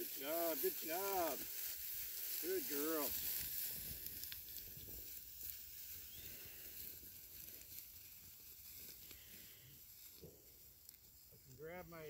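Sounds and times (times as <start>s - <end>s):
dry grass rustling: 0.0s - 12.0s.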